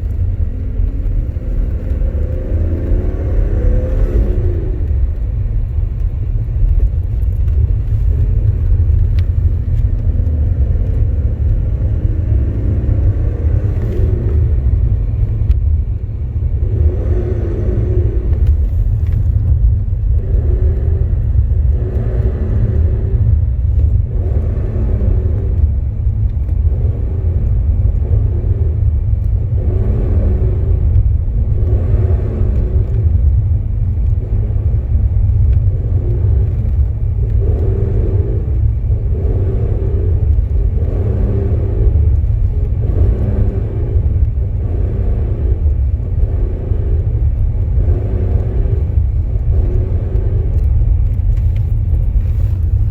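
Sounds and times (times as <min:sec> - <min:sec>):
car engine idling: 0:00.0 - 0:52.9
whirring metallic clutch noise: 0:00.0 - 0:52.9.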